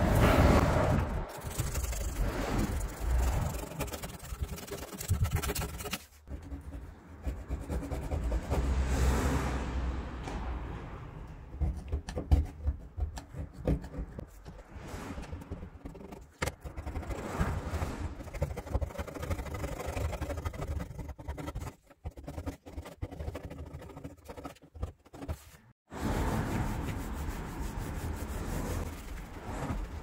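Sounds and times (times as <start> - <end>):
scraper scraping painted metal: 0.2 - 8.9, 11.5 - 30.0.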